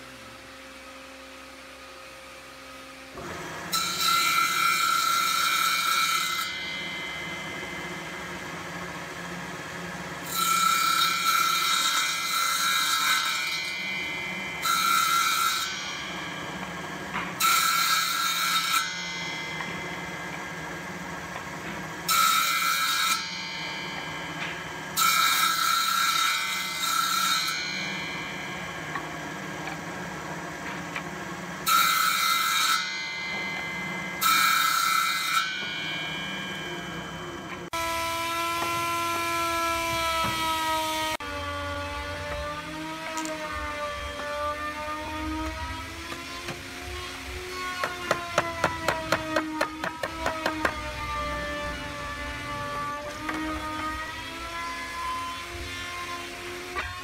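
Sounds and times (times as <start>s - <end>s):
circular saw running: 0.0s - 57.0s
saw cutting into wood: 3.2s - 57.0s.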